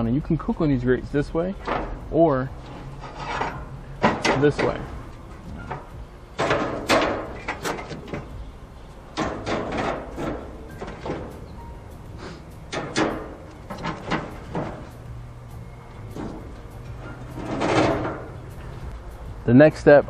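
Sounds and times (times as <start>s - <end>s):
metal grill grates clanking: 1.4s - 19.8s.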